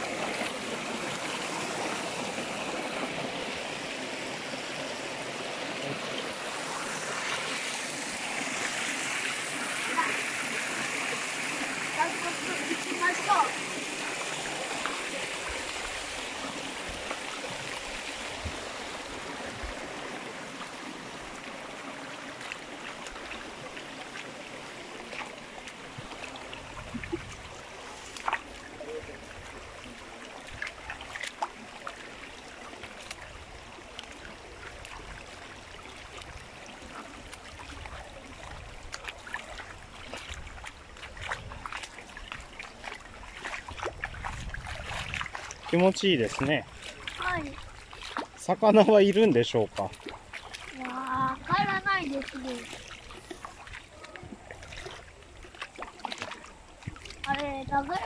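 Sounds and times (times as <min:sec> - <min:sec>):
feet wading through water: 0:00.0 - 0:58.0
stream babbling over stones: 0:00.0 - 0:58.0.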